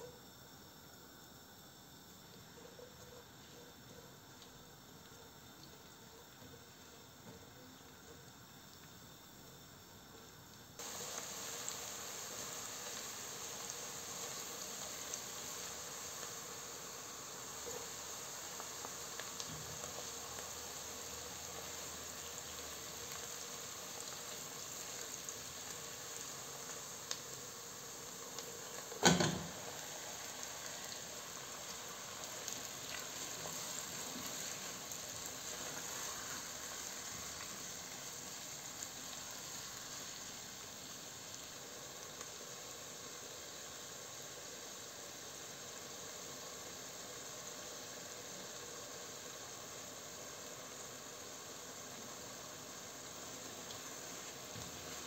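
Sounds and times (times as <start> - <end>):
soft sizzle of frying: 0.0 - 55.0.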